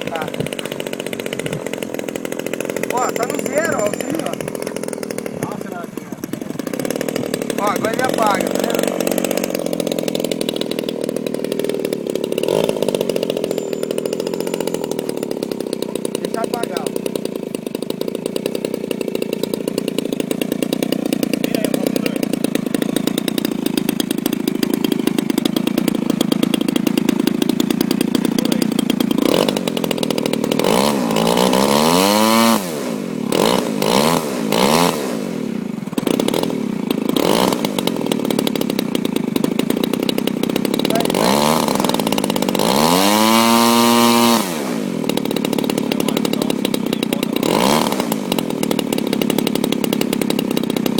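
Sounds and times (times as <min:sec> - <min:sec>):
model airplane engine revving: 0:00.0 - 0:50.9.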